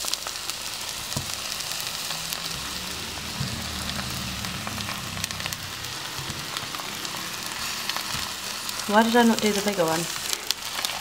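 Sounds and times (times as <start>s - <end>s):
vegetable sizzling in oil: 0.0s - 11.0s.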